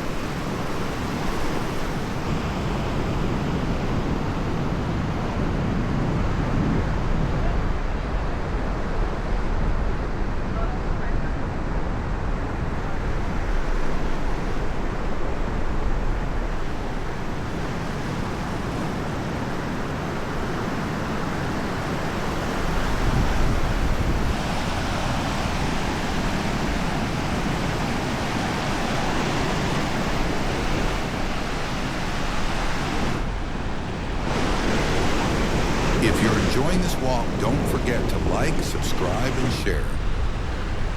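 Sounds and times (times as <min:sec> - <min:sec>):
waves washing onto beach: 0:00.0 - 0:40.9.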